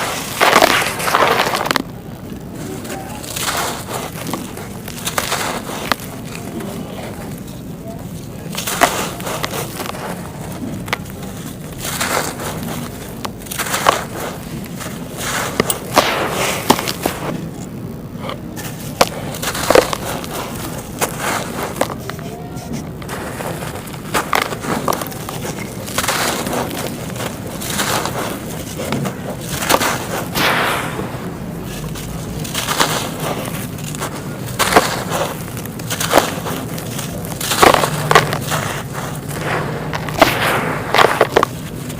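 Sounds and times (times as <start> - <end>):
dry clay crunching and cracking: 0.0 - 41.9.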